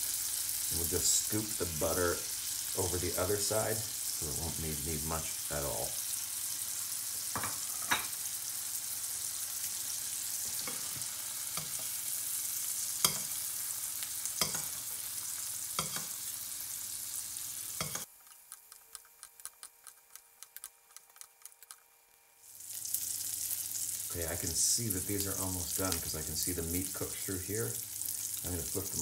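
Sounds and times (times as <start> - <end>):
meat sizzling in a pan: 0.0 - 19.6, 22.4 - 29.0.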